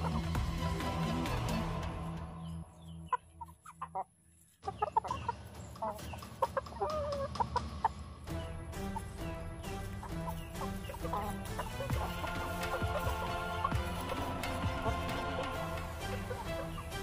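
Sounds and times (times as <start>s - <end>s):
chickens clucking: 0.0s - 1.0s, 2.4s - 17.0s
background music: 0.0s - 17.0s.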